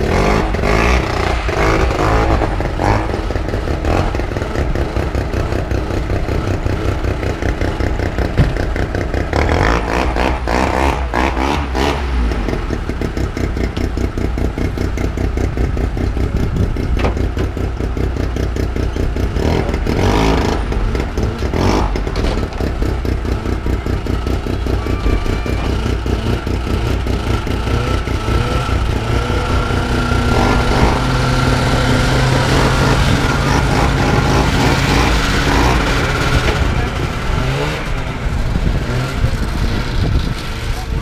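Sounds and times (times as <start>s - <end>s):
engine running: 0.0s - 41.0s
second engine: 0.0s - 41.0s.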